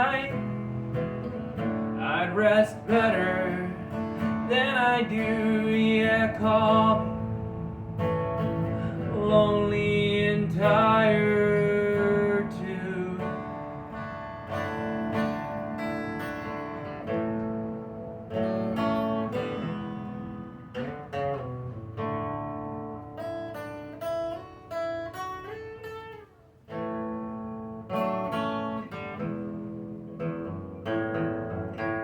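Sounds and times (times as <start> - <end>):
acoustic guitar playing: 0.0 - 32.0.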